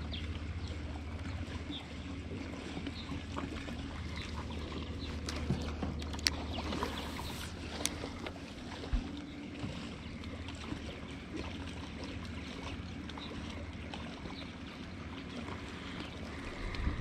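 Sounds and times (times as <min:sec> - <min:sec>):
boat engine hum: 0:00.0 - 0:17.0
water noise: 0:00.0 - 0:17.0.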